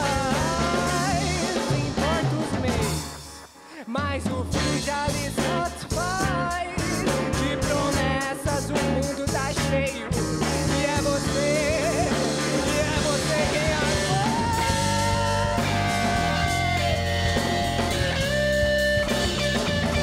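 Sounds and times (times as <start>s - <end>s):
man singing: 0.0s - 20.0s
rock band playing live: 0.0s - 20.0s.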